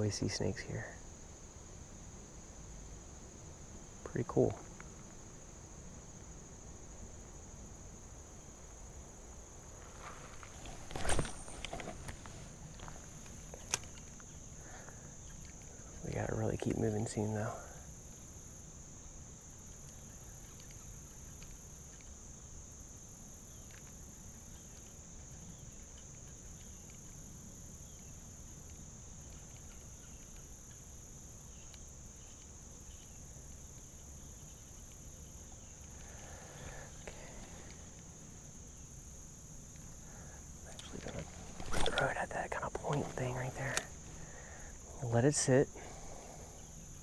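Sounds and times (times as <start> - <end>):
insects drone: 0.0 - 47.0
pulsing insect chorus: 0.0 - 47.0.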